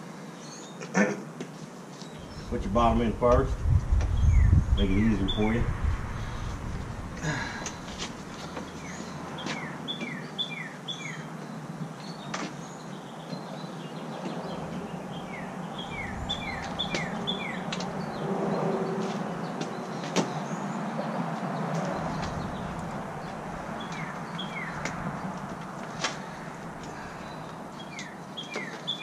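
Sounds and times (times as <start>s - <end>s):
songbird chirping: 1.9s - 6.5s, 7.2s - 29.0s.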